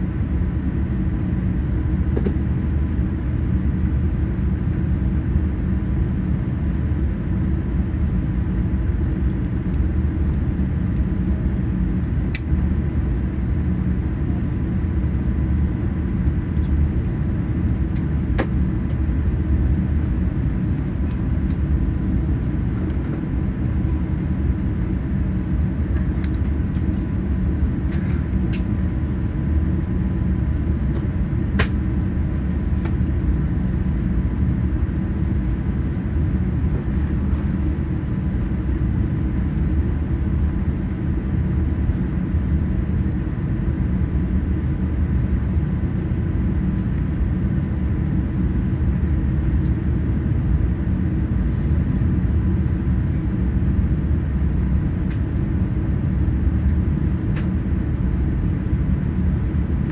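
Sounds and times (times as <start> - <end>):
airliner cabin rumble: 0.0 - 59.9
faint steady hum: 0.0 - 59.9.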